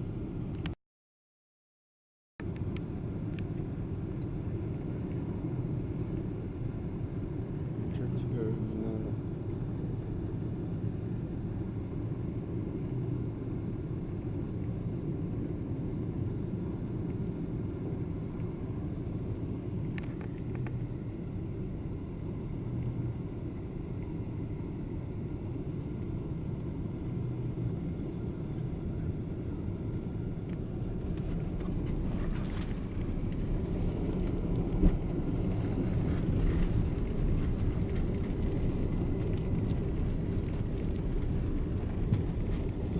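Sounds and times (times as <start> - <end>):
airliner cabin engine rumble: 0.0 - 0.8, 2.4 - 42.9.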